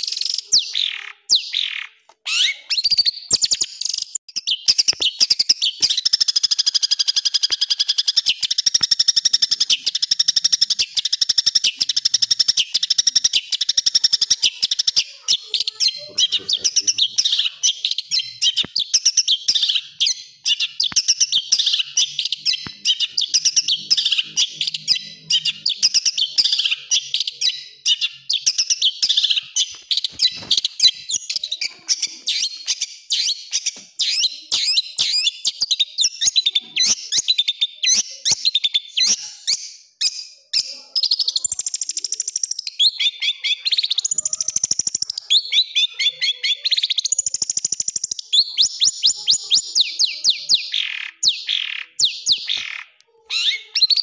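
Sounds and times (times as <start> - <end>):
bird singing harsh trills: 0.0 - 54.0.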